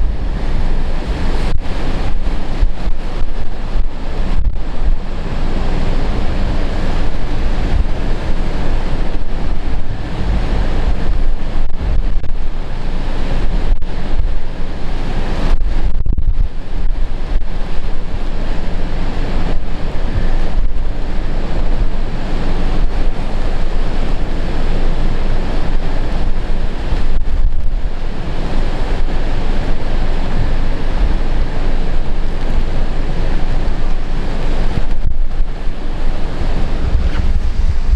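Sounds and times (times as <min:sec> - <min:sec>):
heavy surf crashing: 0:00.0 - 0:37.9
wind buffeting microphone: 0:00.0 - 0:37.9.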